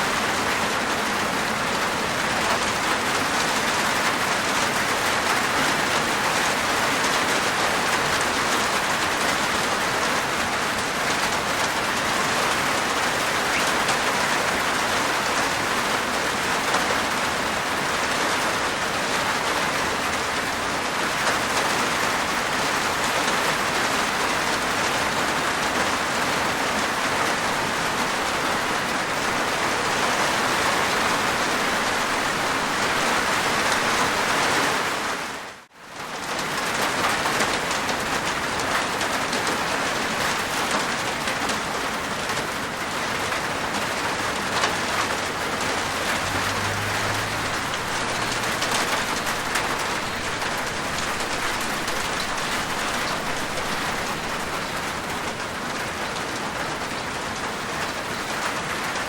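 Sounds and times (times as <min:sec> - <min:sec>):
rain pattering on a roof: 0:00.0 - 0:59.0.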